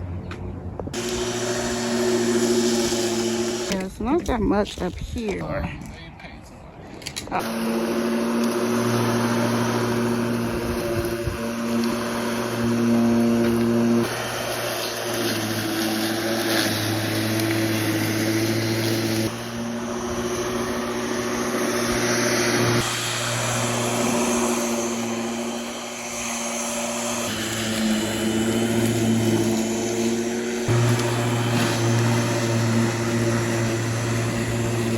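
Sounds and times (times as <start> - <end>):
lawn mower running: 1.0 - 3.9, 7.3 - 34.9.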